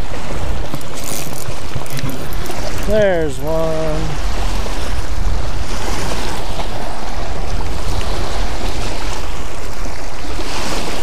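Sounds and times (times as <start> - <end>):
waves lapping on gravel: 0.0 - 11.0
wind buffeting microphone: 0.0 - 11.0.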